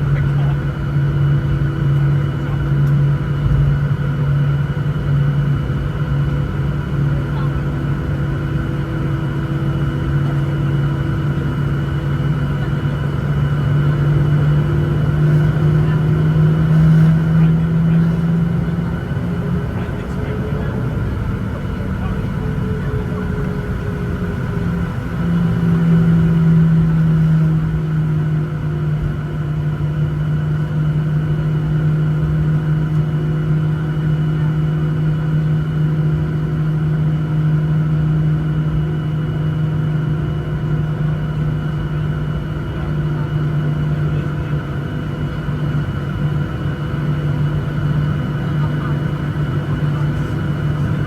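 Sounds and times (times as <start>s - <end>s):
jet engine drone in cabin: 0.0s - 51.0s.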